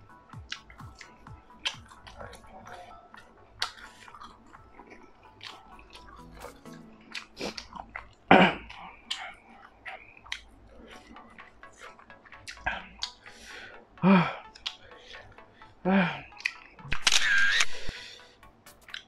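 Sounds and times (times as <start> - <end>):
person chewing food: 0.2 - 13.6, 14.4 - 15.5, 16.2 - 17.6.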